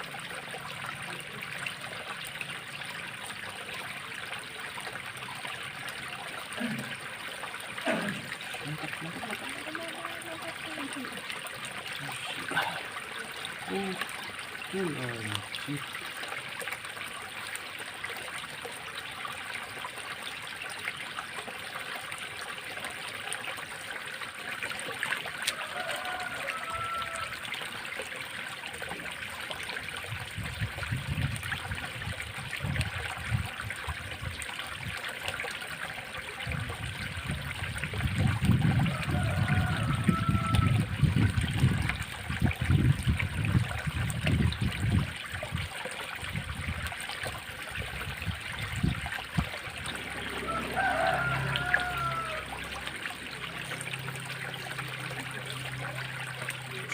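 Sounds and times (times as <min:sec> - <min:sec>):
water trickling in a ditch: 0:00.0 - 0:56.9.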